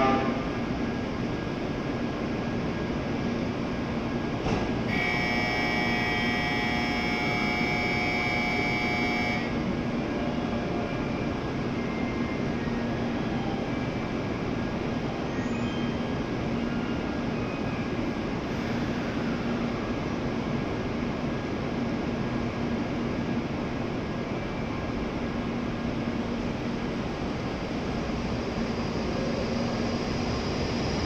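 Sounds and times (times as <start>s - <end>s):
train platform hum: 0.0s - 31.0s.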